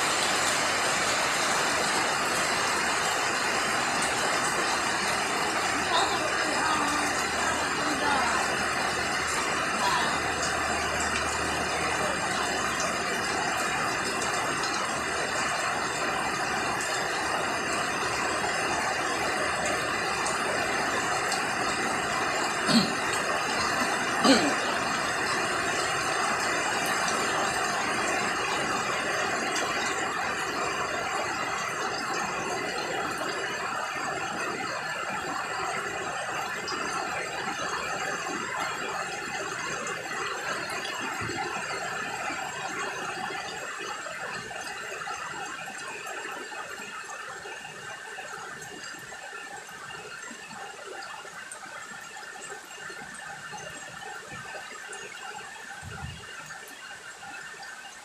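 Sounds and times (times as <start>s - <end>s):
heavy rain on foliage: 0.0s - 58.0s
water streaming off roof: 0.0s - 58.0s.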